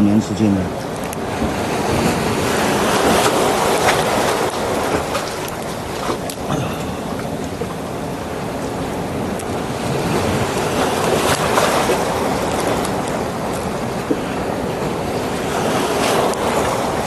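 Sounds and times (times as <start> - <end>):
heavy sea surf: 0.0 - 17.0
wind buffeting microphone: 0.0 - 17.0.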